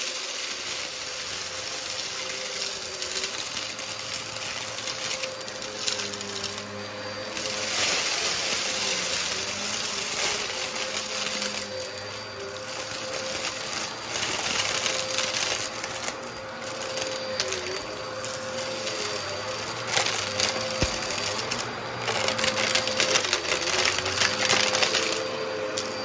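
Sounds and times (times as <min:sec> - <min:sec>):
vacuum cleaner motor hum: 0:00.0 - 0:26.0.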